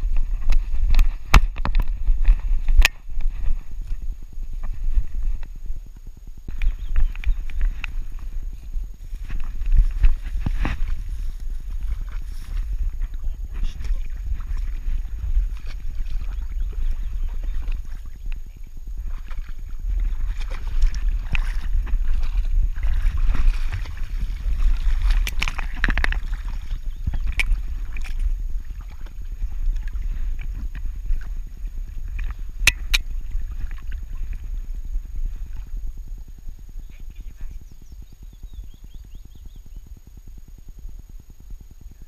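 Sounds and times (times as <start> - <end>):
low rumble of camera mount: 0.0 - 13.2, 14.1 - 36.6.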